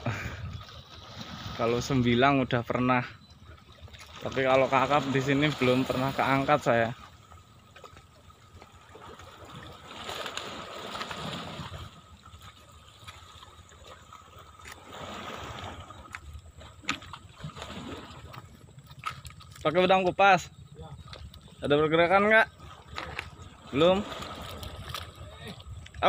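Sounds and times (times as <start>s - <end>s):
waves gurgling against rocks: 0.0s - 26.0s.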